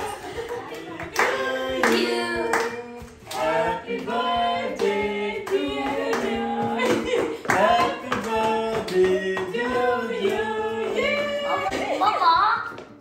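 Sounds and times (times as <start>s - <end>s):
hands clapping along: 0.0s - 12.1s
people singing a birthday song: 0.0s - 12.2s.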